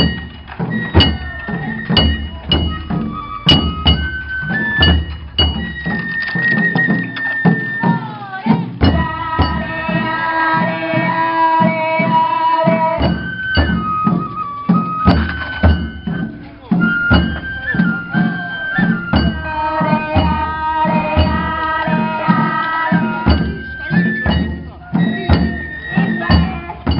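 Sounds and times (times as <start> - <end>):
bamboo flute playing: 0.0 - 26.9
taiko drums beating: 0.0 - 26.9.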